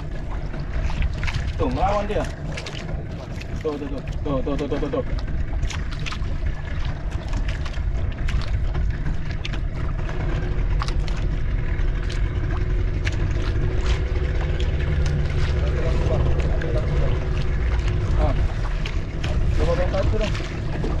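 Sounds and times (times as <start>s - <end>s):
boat rumble: 0.0s - 21.0s.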